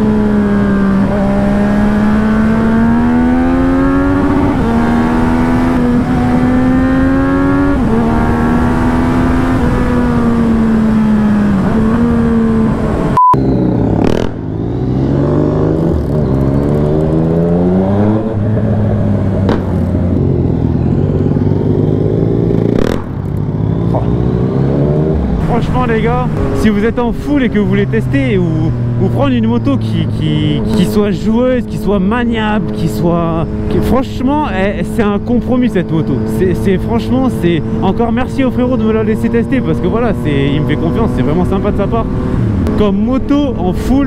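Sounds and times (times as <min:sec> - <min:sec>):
motorcycle engine revving and shifting: 0:00.0 - 0:44.0.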